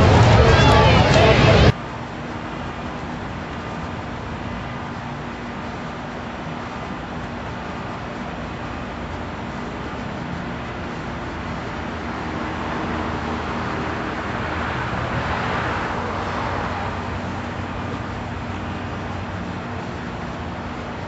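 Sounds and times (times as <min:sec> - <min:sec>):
tyre and road noise: 0:00.0 - 0:21.0
vehicle engine hum: 0:00.0 - 0:21.0.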